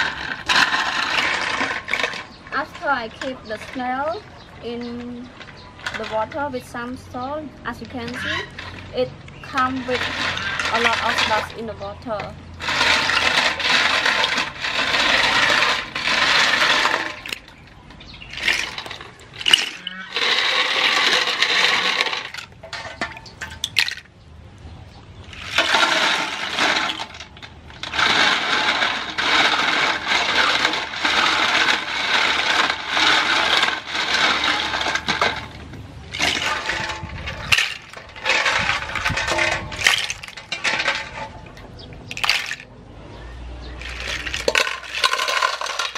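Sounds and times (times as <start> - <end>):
shells clattering in metal basin: 0.0 - 24.2, 25.2 - 42.8, 43.7 - 45.9
water sloshing: 0.0 - 42.7.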